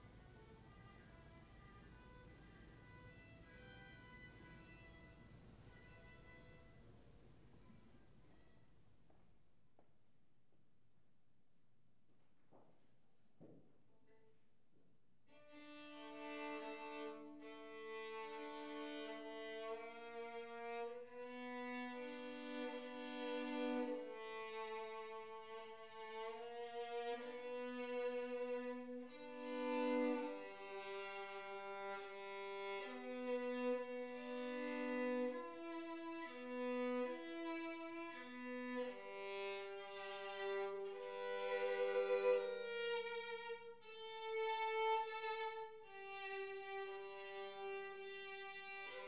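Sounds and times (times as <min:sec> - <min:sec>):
solo violin melody: 0:00.0 - 0:06.9, 0:15.3 - 0:49.0.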